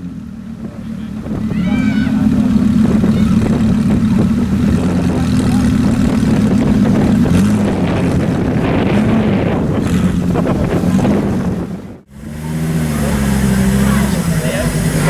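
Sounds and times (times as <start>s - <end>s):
car engine running: 0.0s - 15.0s
wind noise on microphone: 0.0s - 15.0s.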